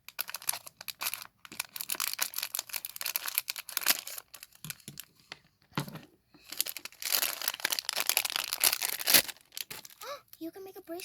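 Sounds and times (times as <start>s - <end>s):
plastic packaging crinkling: 0.0s - 5.1s, 6.4s - 11.0s.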